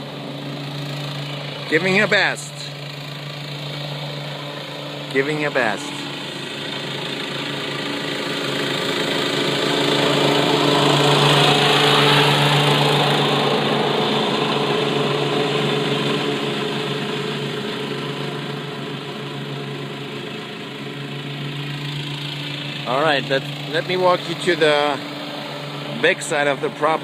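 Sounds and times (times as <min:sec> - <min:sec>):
lawn mower engine cutting grass: 0:00.0 - 0:27.0.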